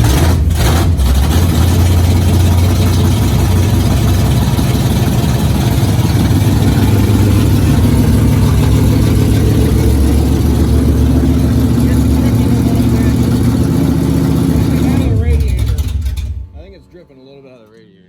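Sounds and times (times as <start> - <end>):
car engine idling loud: 0.0 - 16.8.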